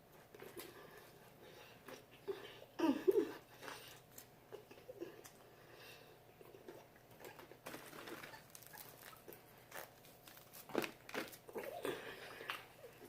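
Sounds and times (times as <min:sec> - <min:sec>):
people chewing and crunching: 0:00.1 - 0:05.7, 0:06.3 - 0:13.0.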